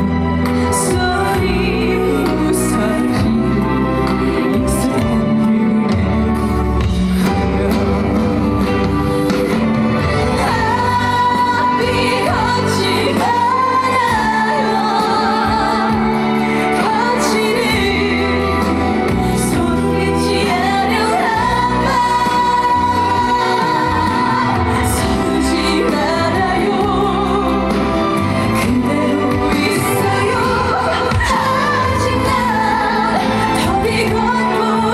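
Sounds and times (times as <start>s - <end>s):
band accompaniment: 0.0s - 34.9s
woman singing with vibrato: 0.0s - 34.9s.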